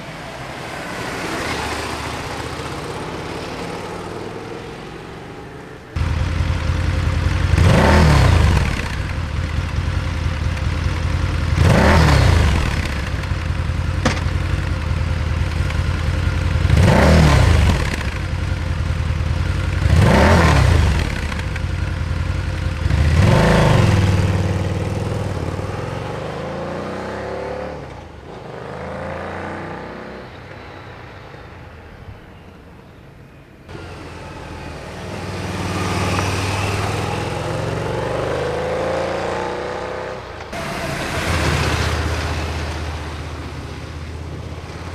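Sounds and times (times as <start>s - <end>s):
motorcycle engine idling and revving: 0.6s - 30.8s, 33.7s - 44.9s.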